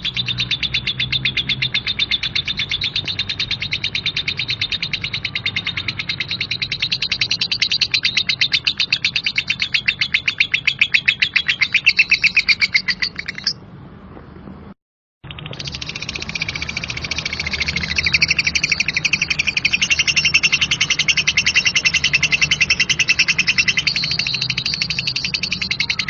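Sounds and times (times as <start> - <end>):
lovebird chattering: 0.0 - 13.6, 15.3 - 26.0.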